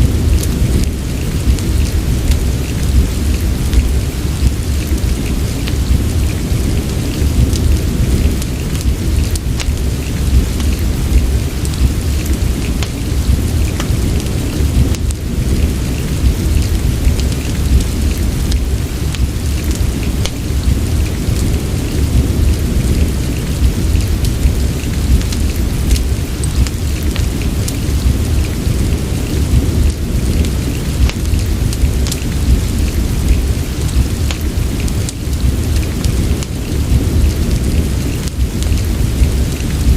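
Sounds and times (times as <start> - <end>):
fire crackling: 0.0 - 39.9
fireplace low rumble: 0.0 - 39.9
steady rain hiss: 0.0 - 39.9.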